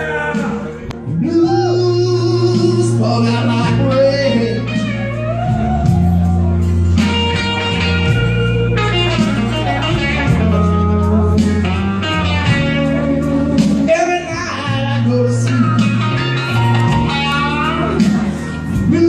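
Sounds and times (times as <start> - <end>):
bass notes: 0.0 - 19.0
bending lead guitar: 0.0 - 19.0
slow blues backing track: 0.0 - 19.0.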